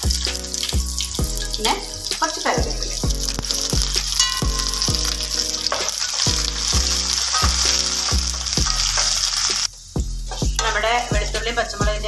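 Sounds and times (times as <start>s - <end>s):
spatula stirring pan: 0.0s - 9.7s
food sizzling in hot oil: 0.0s - 11.7s
background music with steady beat: 0.0s - 12.0s.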